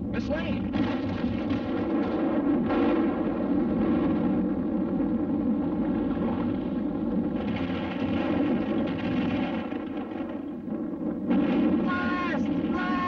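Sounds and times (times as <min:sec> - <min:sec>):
cartoon volcano eruption rumble: 0:00.0 - 0:13.0.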